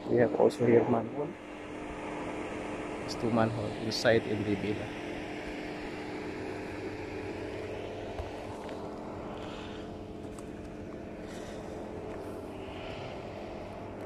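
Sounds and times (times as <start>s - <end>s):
mechanical engine-like drone: 0.0s - 14.0s.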